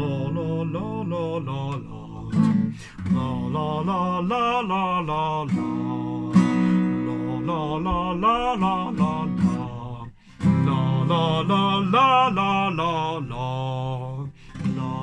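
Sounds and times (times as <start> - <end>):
person singing vocal warm-up: 0.0 - 15.0
strummed guitar chords: 0.0 - 15.0.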